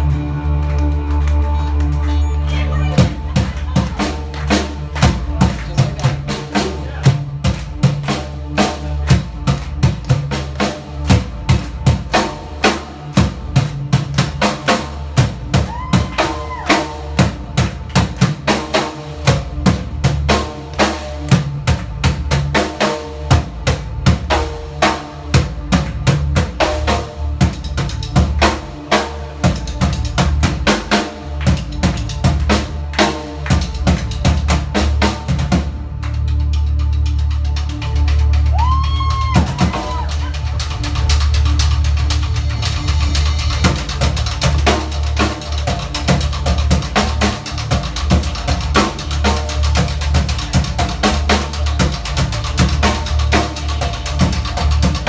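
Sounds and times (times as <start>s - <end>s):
drums beating with sticks: 1.8s - 55.0s.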